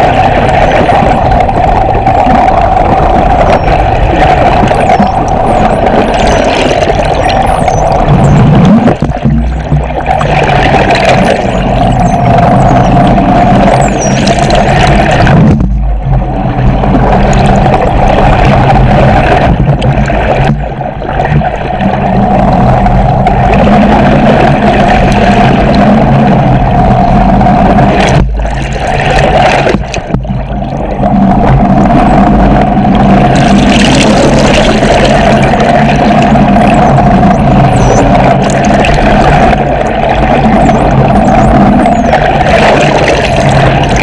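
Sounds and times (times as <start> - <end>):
underwater boat engine drone: 0.0 - 44.0.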